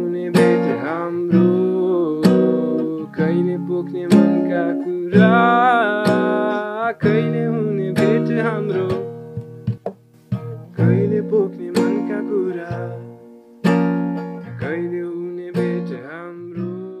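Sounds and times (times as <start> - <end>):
acoustic guitar strumming chords: 0.0 - 17.0
bending melody line: 0.0 - 17.0.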